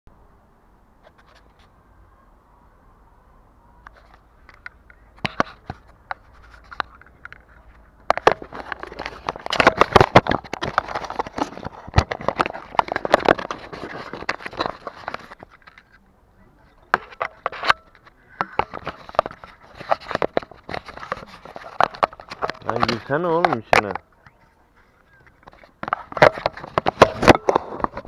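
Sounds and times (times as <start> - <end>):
fingers scraping on camera: 3.9 - 16.0, 16.7 - 28.0.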